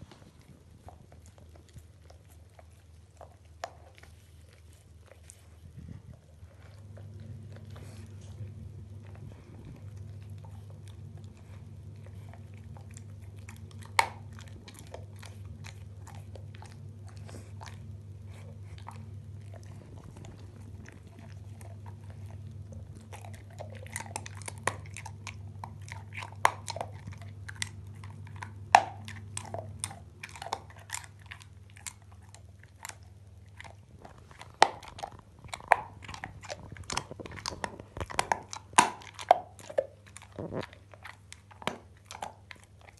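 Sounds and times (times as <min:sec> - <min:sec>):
dog chewing bone: 0:00.0 - 0:42.9.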